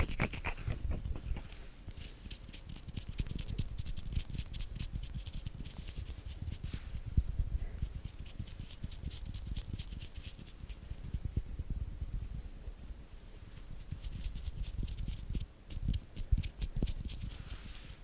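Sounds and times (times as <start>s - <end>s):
hands rubbing and patting: 0.0s - 18.0s.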